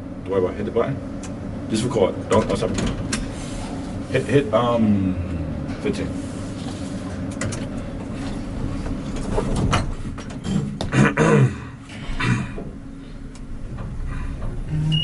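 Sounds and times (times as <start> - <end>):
elevator car humming and rumbling: 0.0 - 15.0.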